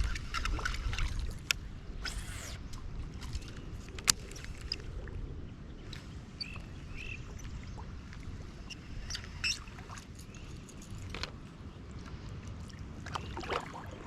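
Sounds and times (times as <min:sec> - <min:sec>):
low rumble of wind or water: 0:00.0 - 0:14.0.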